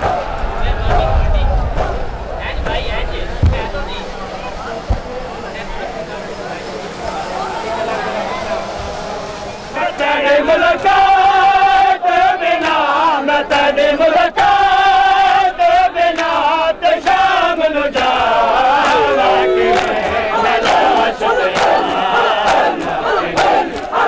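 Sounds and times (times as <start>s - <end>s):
crowd shouting: 0.0s - 24.0s
men chanting: 0.0s - 24.0s.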